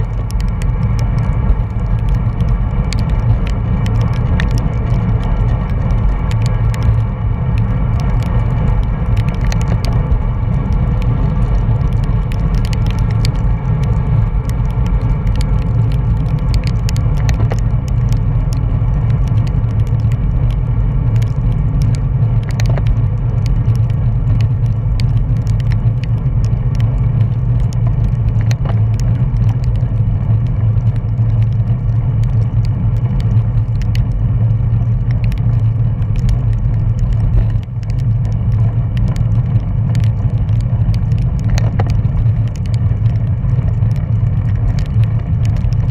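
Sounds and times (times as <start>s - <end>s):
bicycle clicks and rattles: 0.0s - 45.9s
wind rushing over microphone: 0.0s - 45.9s.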